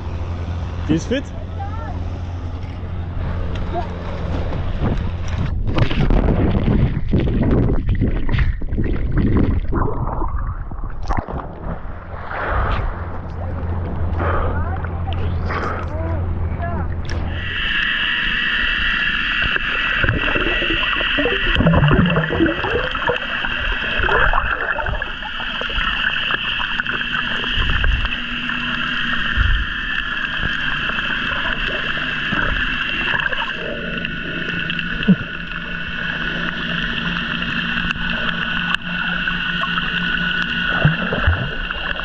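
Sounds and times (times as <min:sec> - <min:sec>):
boat engine running: 0:00.0 - 0:42.0
water rushing and splashing: 0:00.0 - 0:42.0.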